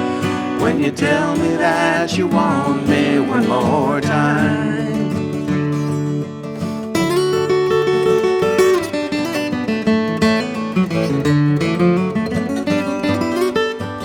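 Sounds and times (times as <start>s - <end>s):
acoustic guitars playing: 0.0s - 14.0s.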